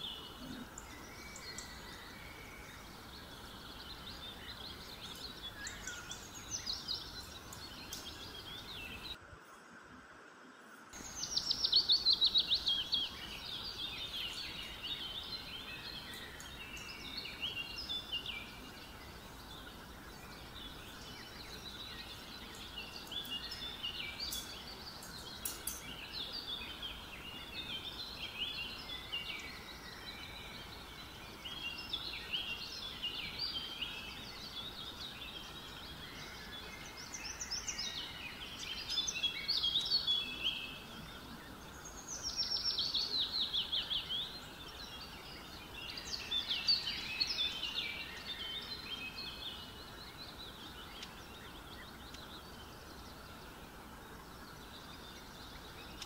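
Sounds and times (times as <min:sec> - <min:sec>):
small birds chirping: 0:00.0 - 0:09.2, 0:10.8 - 0:56.0
steady background hiss: 0:00.0 - 0:56.0.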